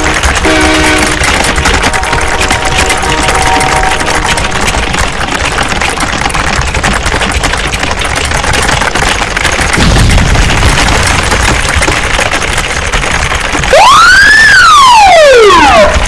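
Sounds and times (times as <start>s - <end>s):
keyboards clattering: 0.0s - 14.4s.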